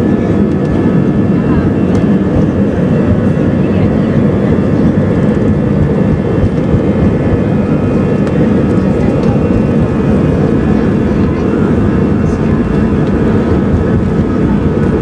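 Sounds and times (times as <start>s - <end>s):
faint steady whining tones: 0.0s - 15.0s
jet engine rumble in cabin: 0.0s - 15.0s.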